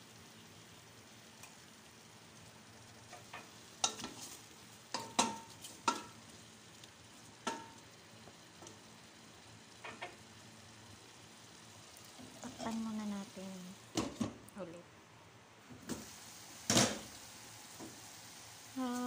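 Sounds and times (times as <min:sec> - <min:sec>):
faint frying sizzle: 0:00.0 - 0:19.0.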